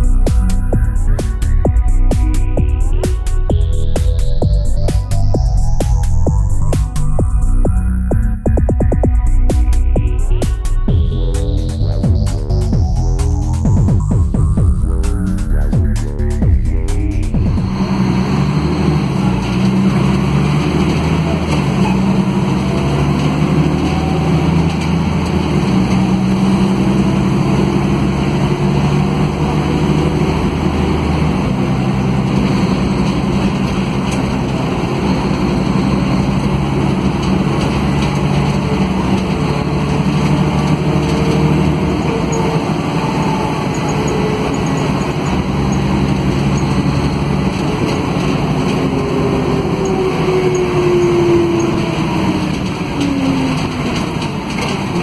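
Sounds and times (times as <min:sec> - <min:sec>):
bus diesel engine running: 0:00.0 - 0:55.0
road rumble: 0:00.0 - 0:55.0.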